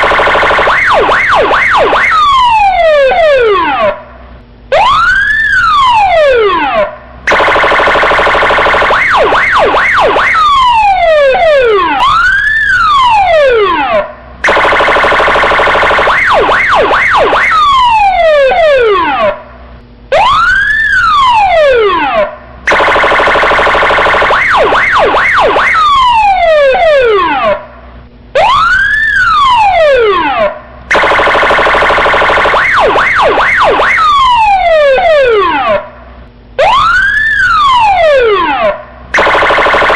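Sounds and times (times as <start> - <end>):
police siren wailing and yelping: 0.0 - 4.1, 4.7 - 19.5, 20.1 - 27.8, 28.4 - 36.0, 36.6 - 39.9.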